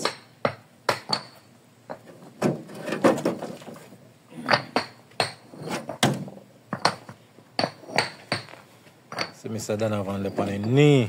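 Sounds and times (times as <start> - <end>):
concrete pavers clinking together: 0.0 - 11.0.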